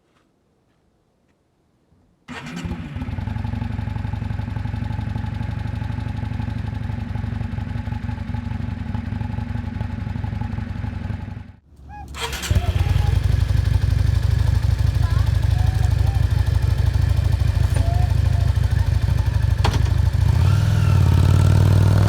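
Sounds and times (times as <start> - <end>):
motorcycle engine running: 2.8 - 11.6, 12.2 - 22.0.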